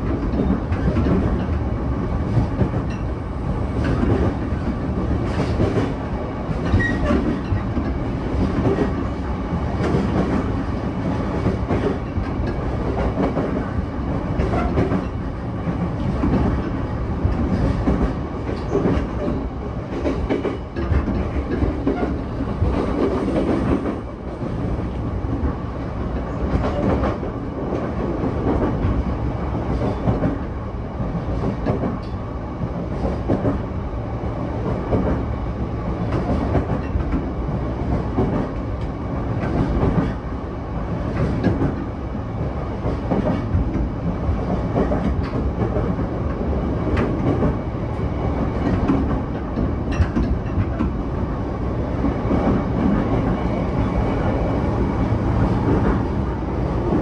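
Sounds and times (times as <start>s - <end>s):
track clacks and knocks: 0.0s - 57.0s
train wheels rumbling on rails: 0.0s - 57.0s.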